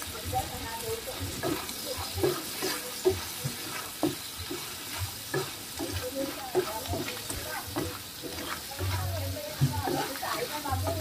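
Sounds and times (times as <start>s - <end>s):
crabs sizzling in a pan: 0.0s - 11.0s
wooden spatula scraping and knocking: 1.1s - 11.0s.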